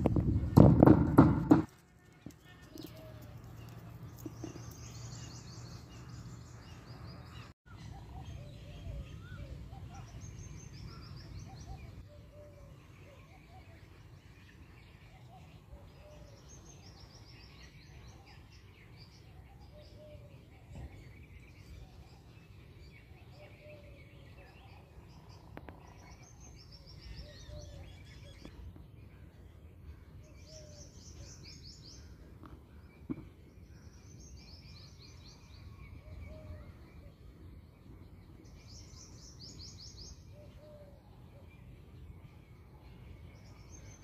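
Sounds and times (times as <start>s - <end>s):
small birds chirping: 0.3s - 44.0s.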